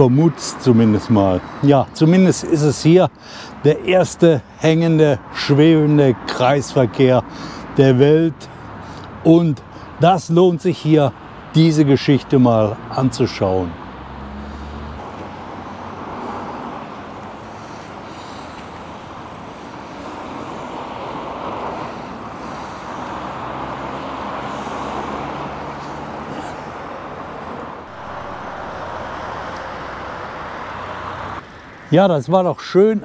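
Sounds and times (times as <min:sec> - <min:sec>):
road traffic passing: 0:00.0 - 0:33.0.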